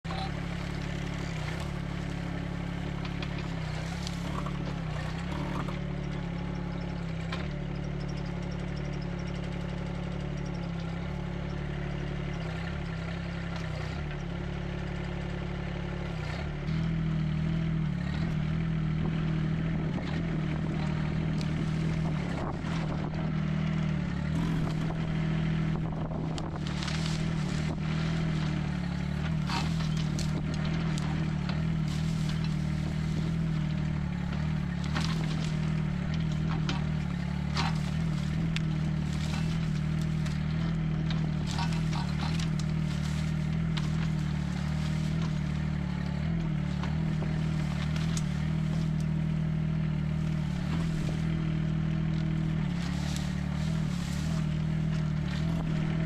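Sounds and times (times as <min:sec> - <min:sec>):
excavator engine running: 0:00.0 - 0:56.0.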